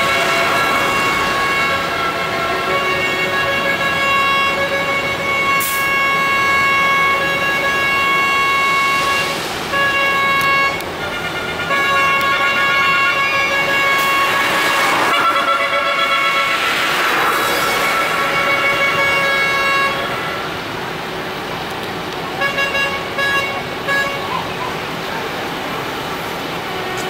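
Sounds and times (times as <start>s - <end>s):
truck air horns blasting: 0.0s - 20.8s, 22.3s - 24.5s, 26.6s - 27.0s
street traffic: 0.0s - 27.0s.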